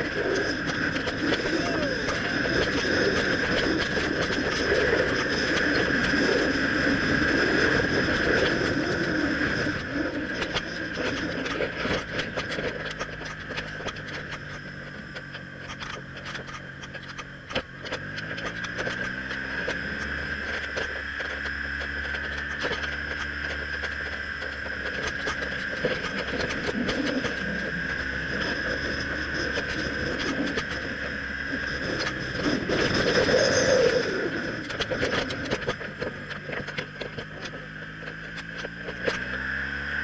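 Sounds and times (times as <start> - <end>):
wind rushing on microphone: 0.0 - 17.2, 17.8 - 39.2
motorcycle engine running: 0.0 - 40.0.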